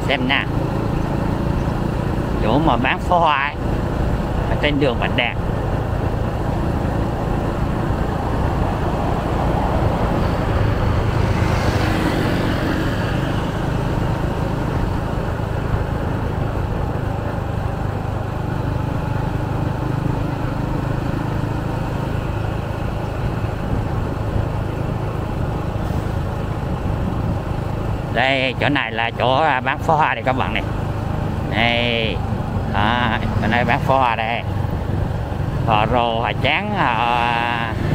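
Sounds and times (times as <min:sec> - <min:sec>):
motorbikes and cars passing: 0:00.0 - 0:37.9.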